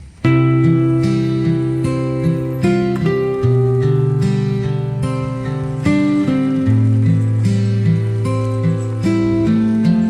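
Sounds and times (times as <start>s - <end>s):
acoustic guitar plucked notes: 0.0s - 10.0s.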